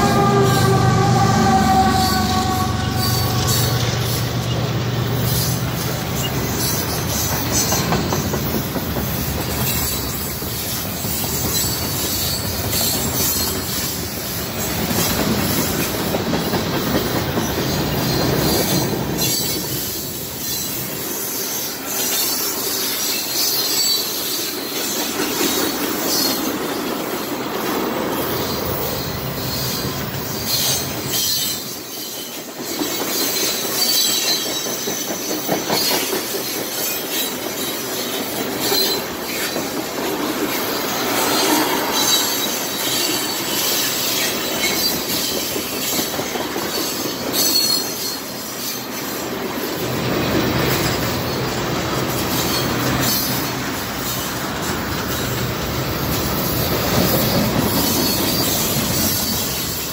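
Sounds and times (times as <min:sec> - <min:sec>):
train rumble: 0:00.0 - 0:59.9
steel wheels clattering over rails: 0:02.8 - 0:59.9.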